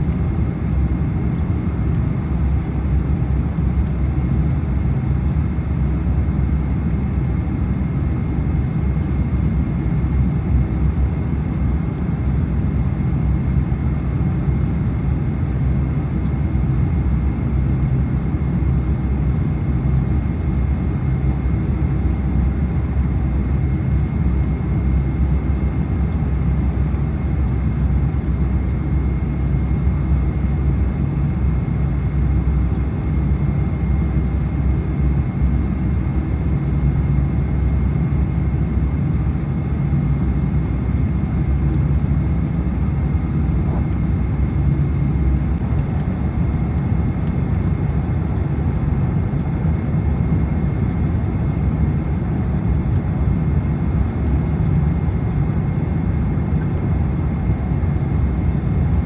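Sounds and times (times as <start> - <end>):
jet engine rumble: 0.0 - 59.0.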